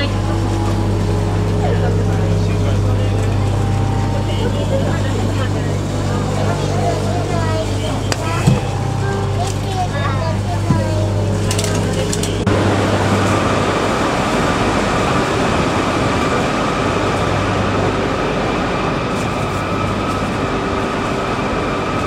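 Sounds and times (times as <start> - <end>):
faint high steady tones: 0.0 - 22.0
train rushing on track: 0.0 - 22.0.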